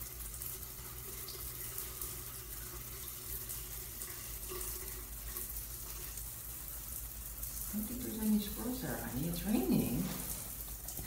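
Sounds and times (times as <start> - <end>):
shower running: 0.0 - 11.0.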